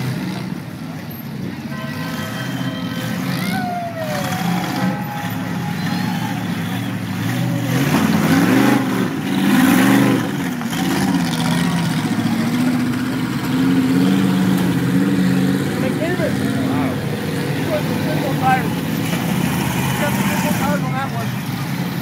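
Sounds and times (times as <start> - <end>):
buggy engines revving: 0.0 - 22.0.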